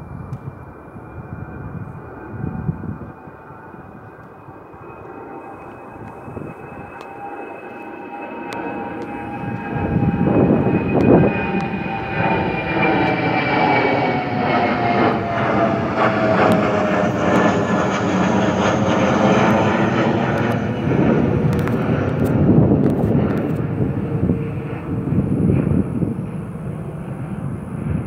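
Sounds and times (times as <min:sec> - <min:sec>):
jet airliner engines passing: 0:00.0 - 0:28.0.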